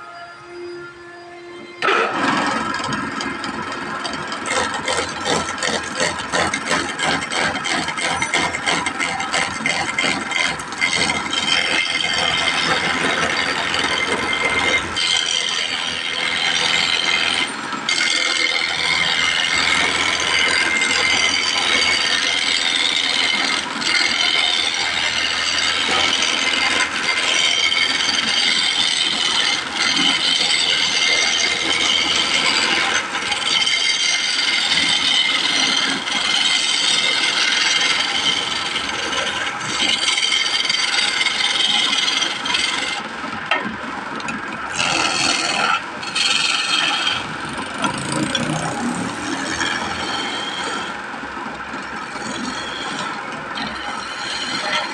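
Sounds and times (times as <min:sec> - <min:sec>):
wood lathe turning tool cutting: 0:01.8 - 0:54.9.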